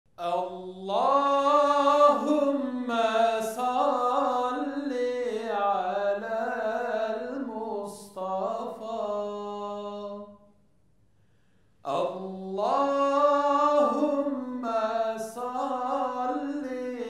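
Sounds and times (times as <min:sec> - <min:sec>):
person chanting: 0:00.2 - 0:10.4, 0:11.8 - 0:17.0.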